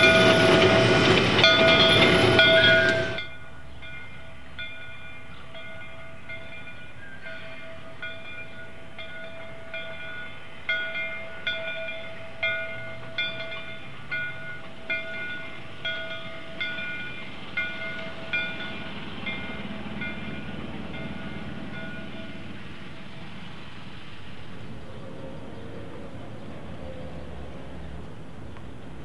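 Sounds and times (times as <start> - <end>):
railroad bell ringing: 0.0 - 29.0.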